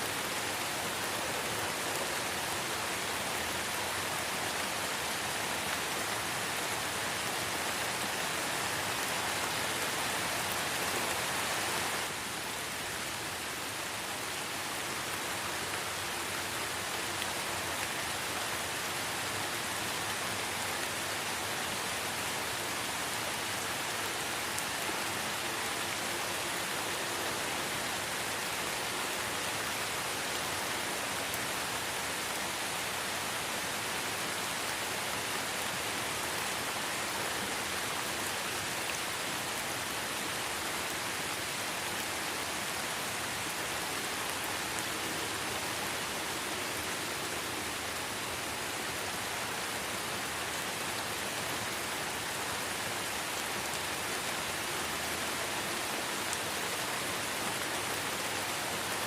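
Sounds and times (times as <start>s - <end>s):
rain pattering on leaves: 0.0s - 59.0s.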